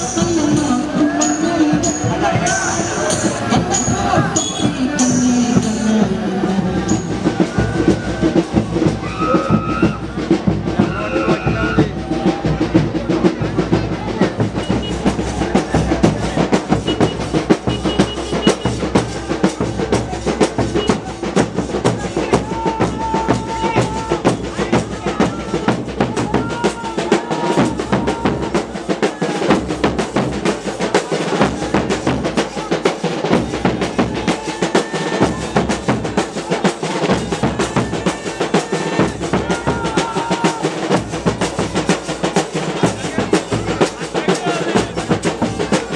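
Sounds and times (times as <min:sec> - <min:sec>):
percussion ensemble drumming: 0:00.0 - 0:45.9.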